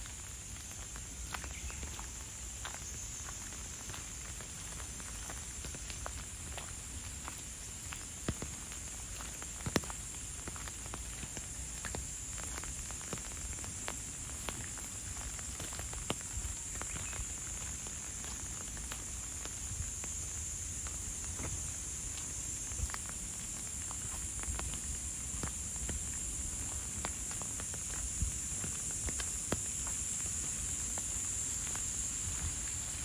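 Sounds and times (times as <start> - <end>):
raindrops ticking and pattering: 0.0 - 33.0
steady rain hiss: 0.0 - 33.0.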